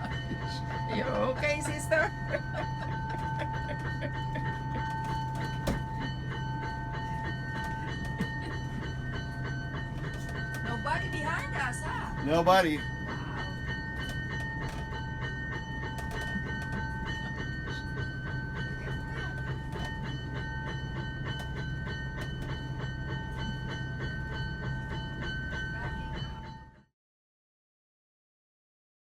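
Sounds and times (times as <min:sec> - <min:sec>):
freight train rumble: 0:00.0 - 0:26.8.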